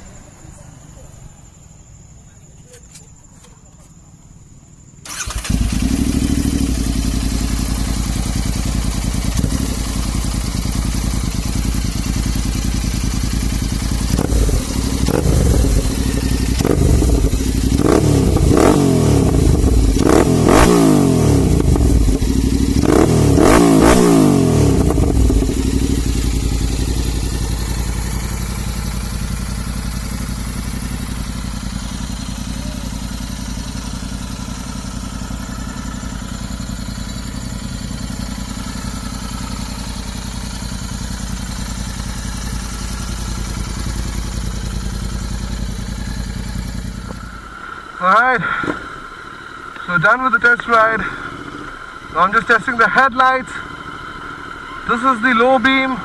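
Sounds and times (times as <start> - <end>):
motorcycle engine idling: 0.0 - 56.0
engine revving: 5.0 - 56.0.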